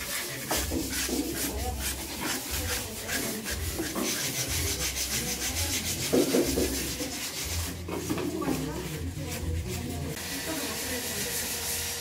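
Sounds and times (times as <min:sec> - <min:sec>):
sandpaper rubbing on wood: 0:00.0 - 0:12.0.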